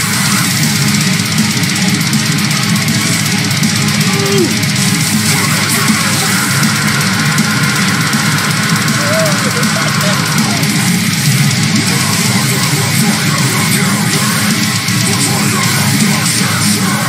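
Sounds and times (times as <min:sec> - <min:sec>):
heavy metal music: 0:00.0 - 0:17.0.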